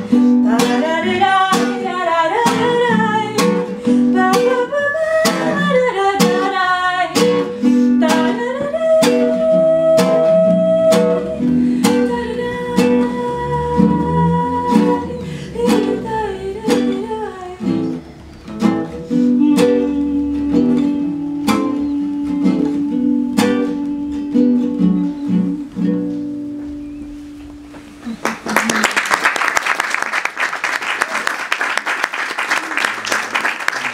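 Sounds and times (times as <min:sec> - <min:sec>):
strummed guitar: 0:00.0 - 0:28.2
acoustic band playing: 0:00.0 - 0:28.9.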